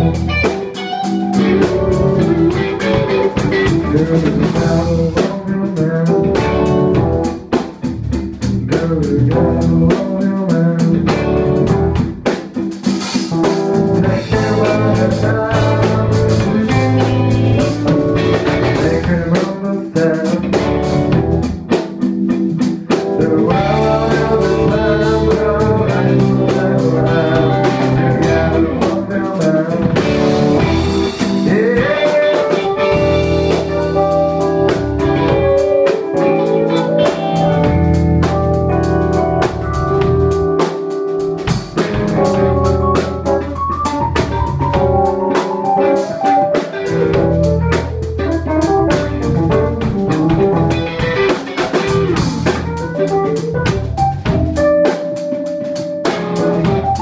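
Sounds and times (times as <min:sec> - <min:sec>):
drum kit: 0:00.0 - 0:57.0
electric guitar: 0:00.0 - 0:57.0
keyboard: 0:00.0 - 0:57.0.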